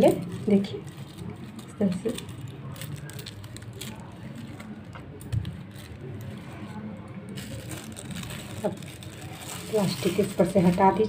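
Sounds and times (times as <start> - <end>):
plastic sheet crinkling: 0.0 - 11.0.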